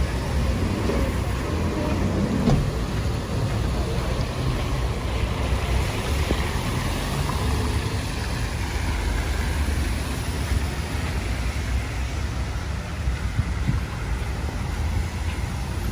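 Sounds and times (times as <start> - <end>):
rain hiss: 0.0 - 15.9.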